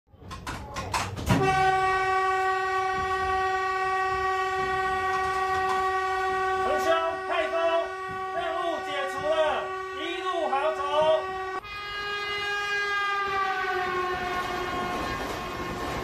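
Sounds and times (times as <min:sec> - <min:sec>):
train horn long blast: 0:01.3 - 0:16.0.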